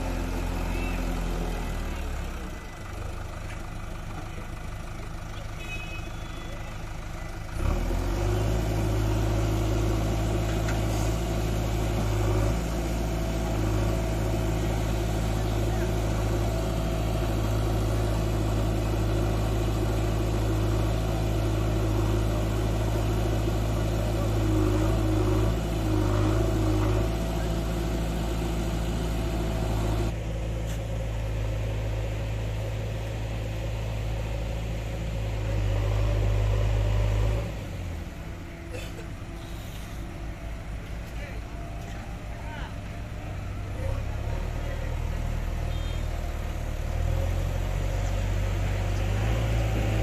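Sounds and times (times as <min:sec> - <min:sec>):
backhoe diesel engine running: 0:00.0 - 0:50.0
grader diesel engine thumping: 0:00.0 - 0:50.0.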